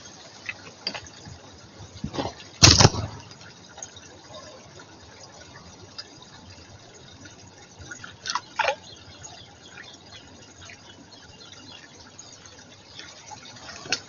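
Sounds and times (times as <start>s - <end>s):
faint water sounds: 0.0s - 14.0s.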